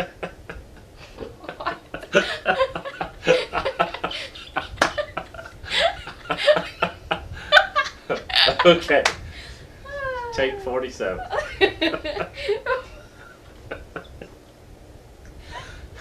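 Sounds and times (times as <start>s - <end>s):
people giggling and chuckling: 0.0s - 9.0s, 10.4s - 14.4s.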